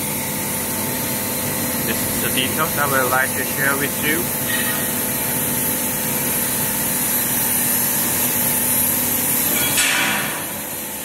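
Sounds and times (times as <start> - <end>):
machine hum with high hiss: 0.0 - 11.0.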